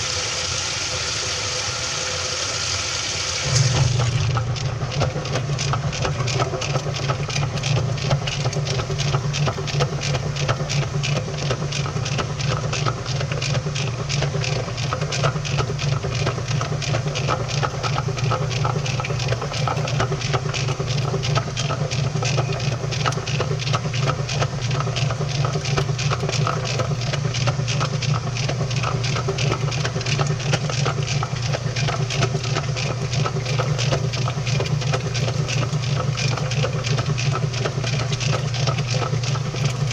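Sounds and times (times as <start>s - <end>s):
washing machine motor hum: 0.0s - 39.9s
rapid clicking and knocking: 3.5s - 39.9s.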